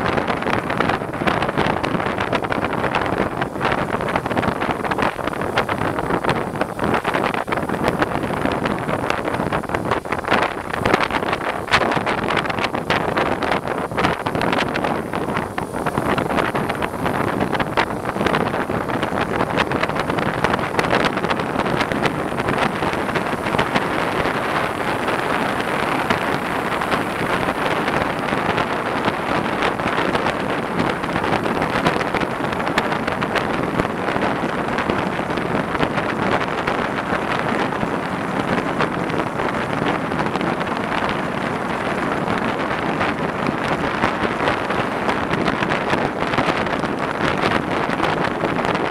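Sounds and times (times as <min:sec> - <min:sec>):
wind noise on microphone: 0:00.0 - 0:48.9.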